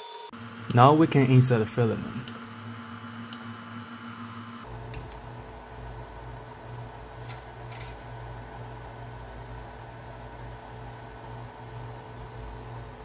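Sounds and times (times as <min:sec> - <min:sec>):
printer fans humming: 0:00.3 - 0:13.0.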